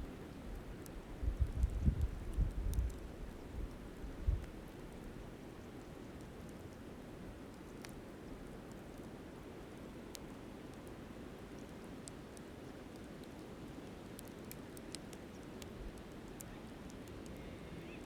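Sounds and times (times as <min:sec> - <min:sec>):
wood fire crackling and popping: 0:00.0 - 0:17.4.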